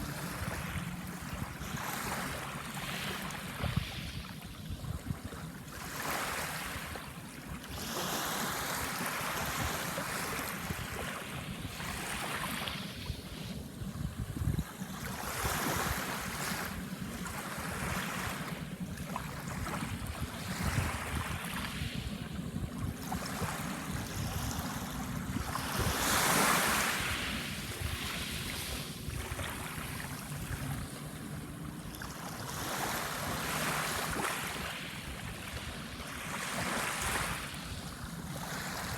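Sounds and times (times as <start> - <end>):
small waves washing ashore: 0.0 - 38.9
wind rumble on microphone: 0.0 - 38.9.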